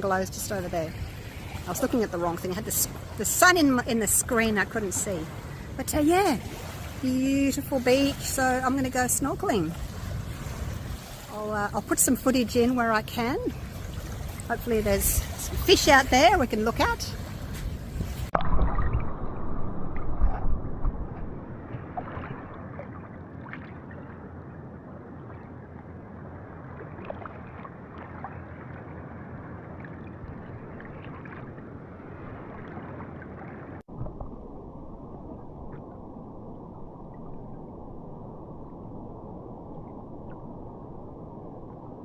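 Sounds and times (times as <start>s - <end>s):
muffled underwater rushing water: 0.0s - 42.0s.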